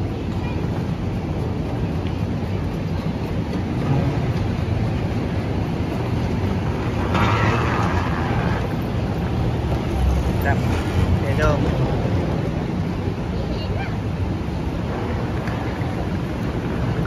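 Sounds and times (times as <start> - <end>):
low rumble of station platform: 0.0 - 17.0.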